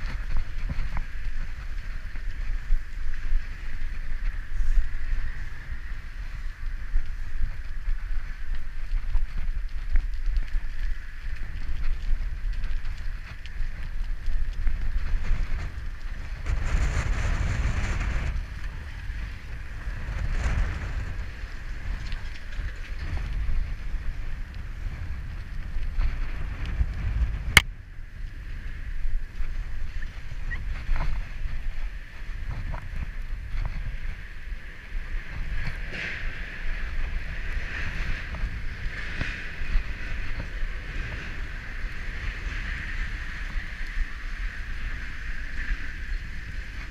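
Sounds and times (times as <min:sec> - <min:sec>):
bicycle tyres hissing on wet asphalt: 0:00.0 - 0:46.9
wind rumble on microphone: 0:00.0 - 0:46.9.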